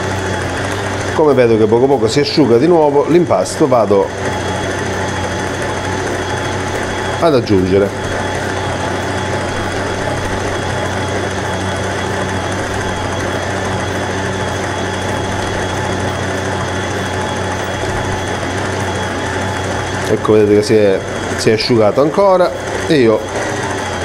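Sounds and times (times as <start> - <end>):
stand mixer kneading dough: 0.0 - 24.0.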